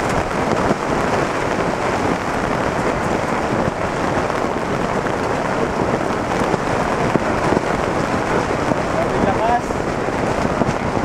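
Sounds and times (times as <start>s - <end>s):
heavy rain on a tent: 0.0s - 11.0s.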